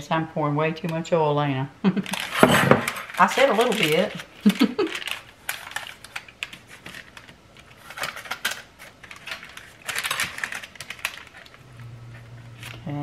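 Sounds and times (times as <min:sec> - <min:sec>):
parchment paper crinkles: 0:02.1 - 0:13.0.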